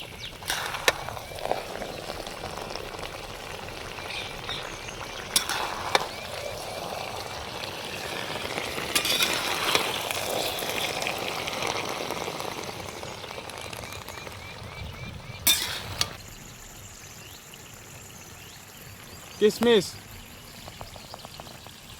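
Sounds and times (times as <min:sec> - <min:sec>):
mixture sizzling in a pan: 0:00.0 - 0:21.9.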